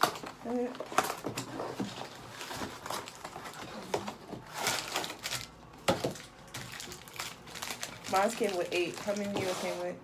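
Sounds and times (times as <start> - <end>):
cardboard and wrappers rustling: 0.0 - 10.0.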